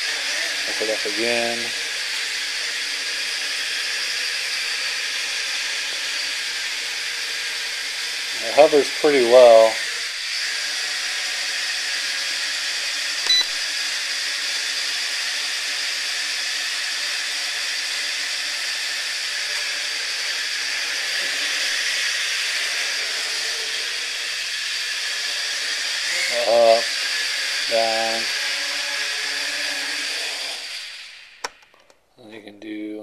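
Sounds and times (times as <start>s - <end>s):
drone propellers whirring: 0.0s - 31.8s.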